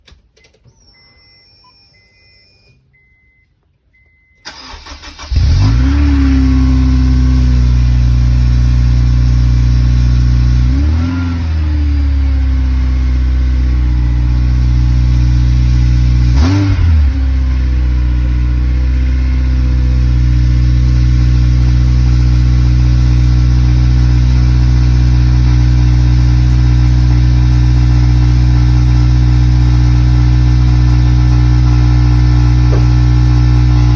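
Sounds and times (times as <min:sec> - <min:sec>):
car engine starting and revving: 0:04.4 - 0:33.9.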